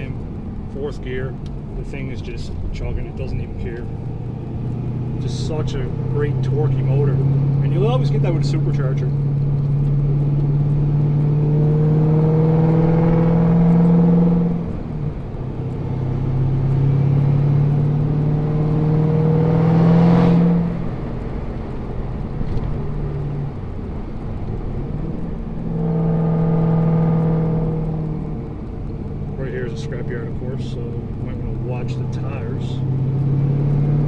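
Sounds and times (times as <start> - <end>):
car engine revving while driving: 0.0 - 34.0.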